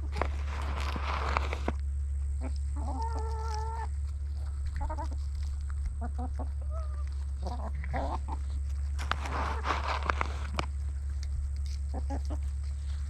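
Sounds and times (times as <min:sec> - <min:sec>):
hens clucking: 0:00.0 - 0:13.0
steady low hum: 0:00.0 - 0:13.0.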